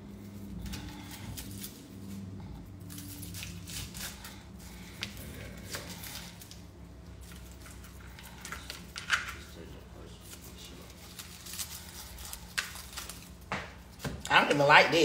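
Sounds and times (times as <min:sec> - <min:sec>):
low steady hum: 0:00.0 - 0:15.0
onion peel rustling: 0:00.0 - 0:15.0.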